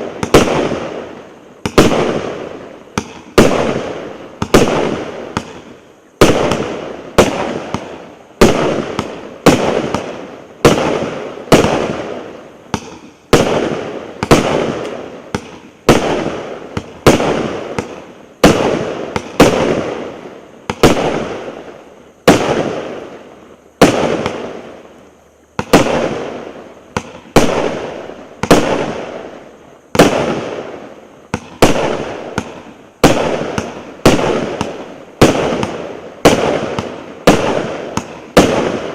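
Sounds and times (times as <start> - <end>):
fireworks battery firing: 0.0 - 38.9.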